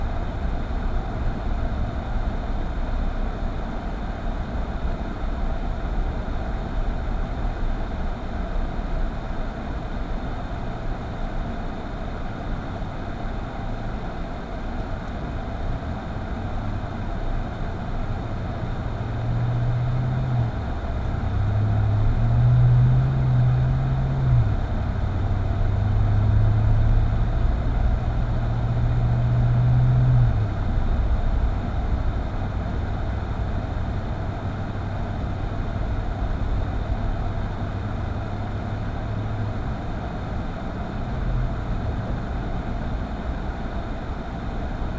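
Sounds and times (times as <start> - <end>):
car engine and road noise: 0.0 - 44.9
low engine hum rising: 0.0 - 44.9.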